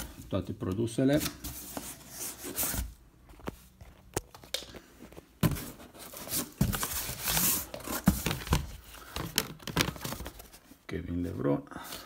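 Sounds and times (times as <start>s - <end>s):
rustling paper and cardboard: 1.0s - 4.1s, 5.0s - 12.0s.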